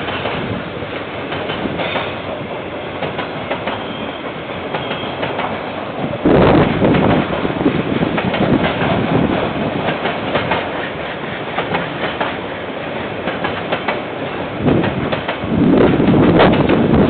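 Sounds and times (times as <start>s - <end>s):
wheels clicking over rail joints: 0.0s - 17.0s.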